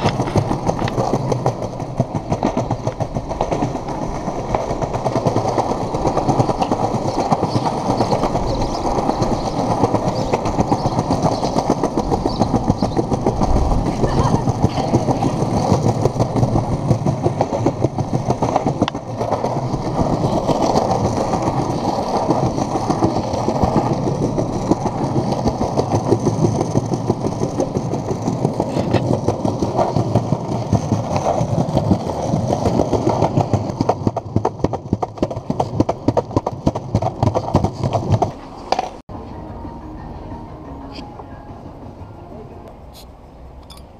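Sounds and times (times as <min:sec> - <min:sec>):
skateboard wheels rolling on stone: 0:00.0 - 0:39.0.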